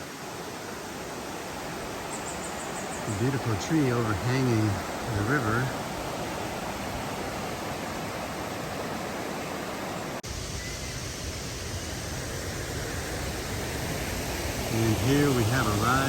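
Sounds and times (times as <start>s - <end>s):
river water flowing over rocks: 0.0s - 16.0s.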